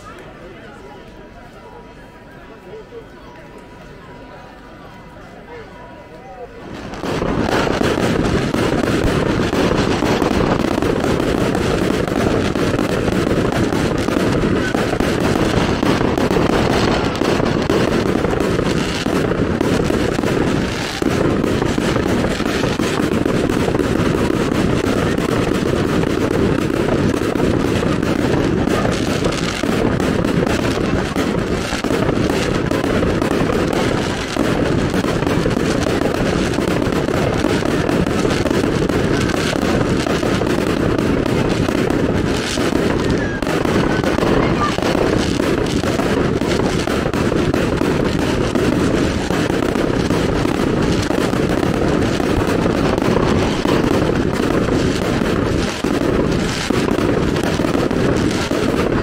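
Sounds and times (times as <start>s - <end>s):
fireworks crackling: 6.4s - 59.0s.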